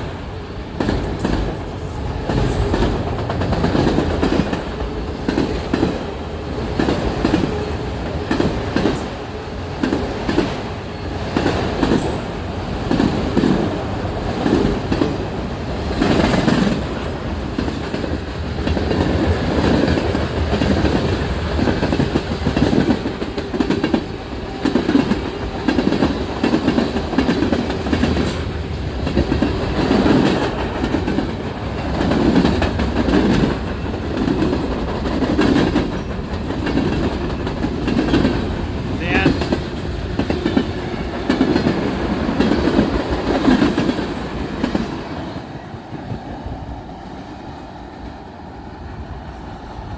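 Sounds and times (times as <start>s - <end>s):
train wheels clacking over rail joints: 0.0s - 46.4s.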